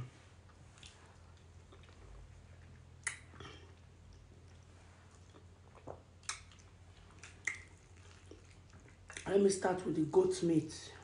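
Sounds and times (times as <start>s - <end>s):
low steady hum: 0.0s - 11.0s
wet chewing and mouth smacks: 0.4s - 9.4s.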